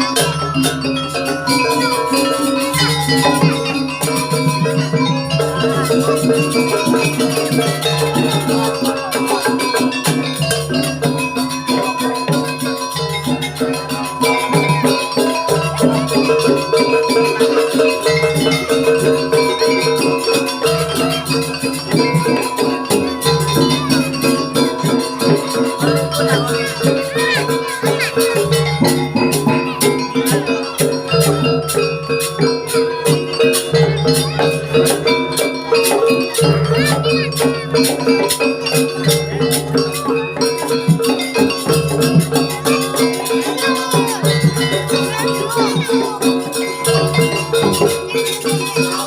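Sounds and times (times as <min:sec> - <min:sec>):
fast rattling beat: 0:00.0 - 0:49.0
gamelan-style pitched percussion: 0:00.0 - 0:49.0.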